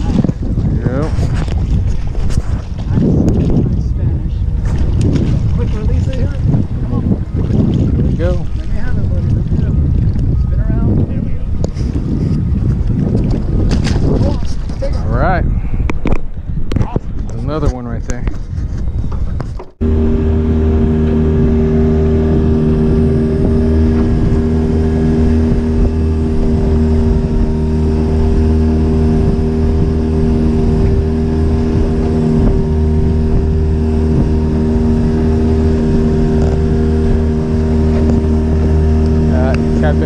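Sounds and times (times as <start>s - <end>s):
motorboat engine running: 0.0s - 15.4s, 16.2s - 40.0s.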